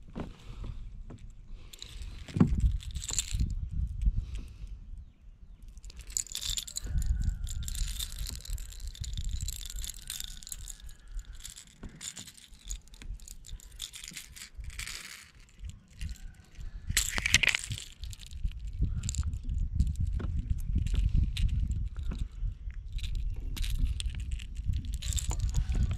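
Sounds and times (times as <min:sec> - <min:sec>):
fishing lure hooks rattling: 0:01.6 - 0:04.6, 0:05.6 - 0:25.9.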